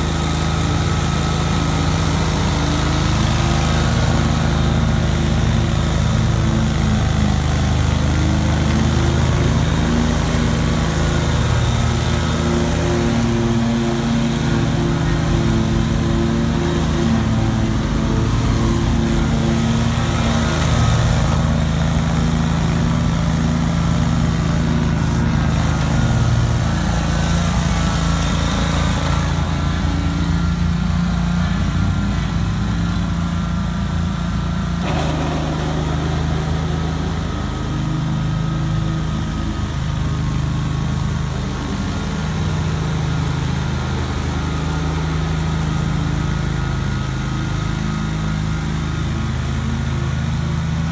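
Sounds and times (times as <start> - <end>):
mower blades cutting thick grass: 0.0 - 50.0
mower engine running under load: 0.0 - 50.9.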